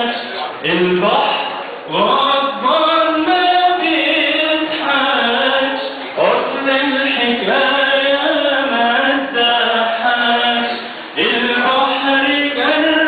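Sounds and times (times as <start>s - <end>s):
man singing long held notes: 0.0s - 13.0s.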